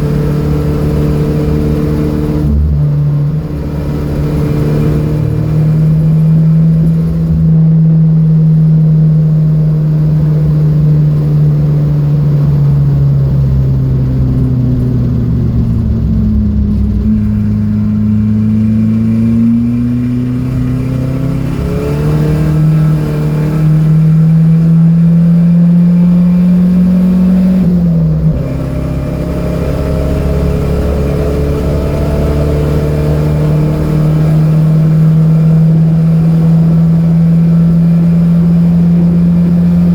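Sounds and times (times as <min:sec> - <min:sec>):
car engine running hard: 0:00.0 - 0:39.9.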